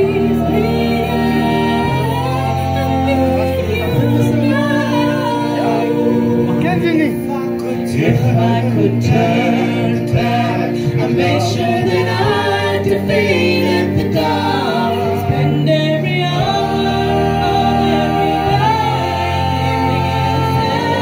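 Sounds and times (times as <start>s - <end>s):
group of singers singing: 0.0s - 21.0s.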